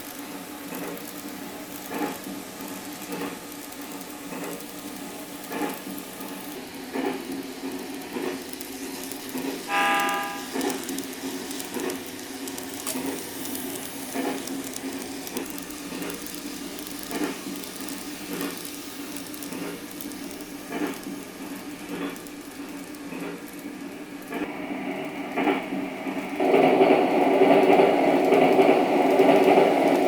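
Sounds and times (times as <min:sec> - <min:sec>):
train hum and hiss: 0:00.0 - 0:30.0
rail-joint clicks: 0:00.7 - 0:03.4, 0:04.0 - 0:21.2, 0:21.8 - 0:24.6, 0:26.4 - 0:30.0.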